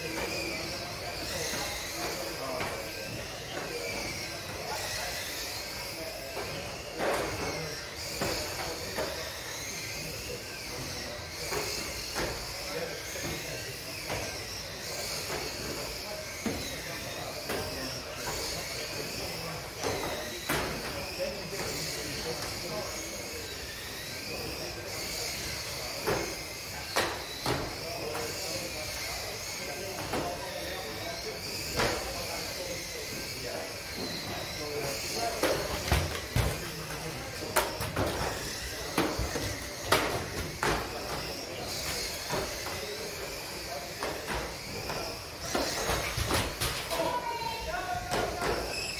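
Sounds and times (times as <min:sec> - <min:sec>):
model car motors whining: 0:00.0 - 0:48.9.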